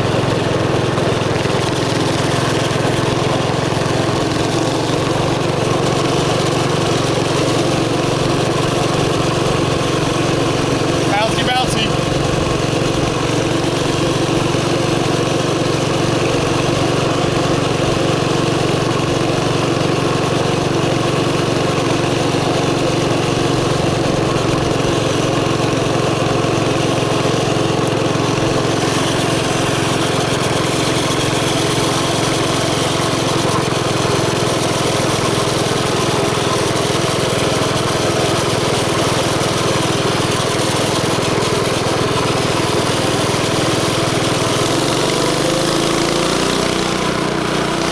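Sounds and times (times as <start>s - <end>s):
small engine running steadily: 0.0s - 47.9s.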